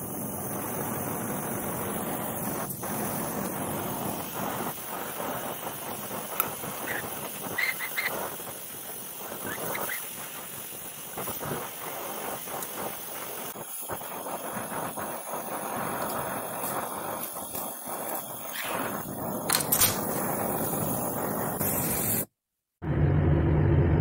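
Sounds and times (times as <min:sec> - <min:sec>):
torch flame hissing: 0:00.0 - 0:22.3.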